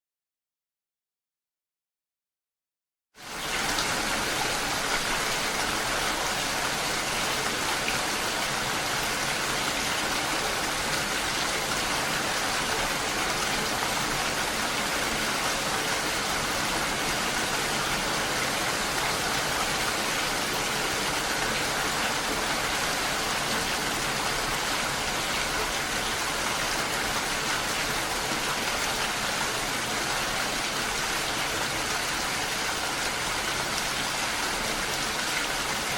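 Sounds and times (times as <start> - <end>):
heavy rain: 3.2 - 35.9.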